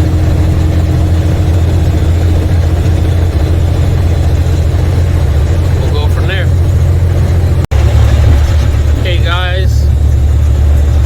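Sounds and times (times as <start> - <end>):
diesel truck engine droning: 0.0 - 11.0.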